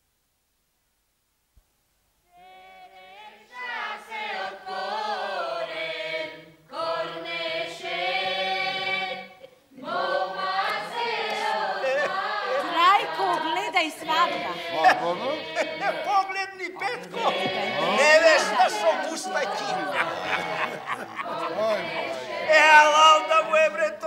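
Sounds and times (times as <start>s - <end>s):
group of voices singing: 2.4s - 24.0s.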